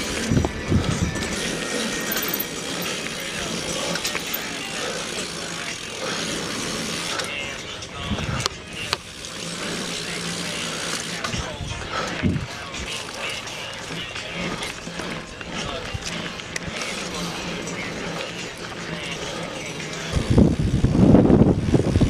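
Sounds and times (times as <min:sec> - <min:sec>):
bicycle mechanical clicking: 0:00.0 - 0:22.0
bike tyres on dirt trail: 0:00.0 - 0:22.0.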